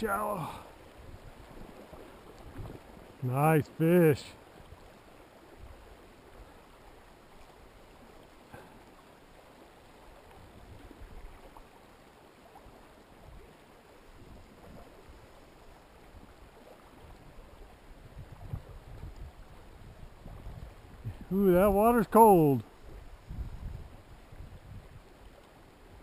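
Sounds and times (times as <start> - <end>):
river running over cobbles: 0.0 - 26.0.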